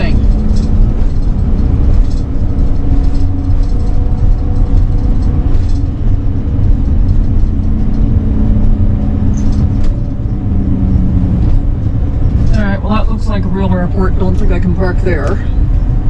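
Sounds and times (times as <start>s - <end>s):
engine droning while driving: 0.0s - 16.0s
road noise: 0.0s - 16.0s.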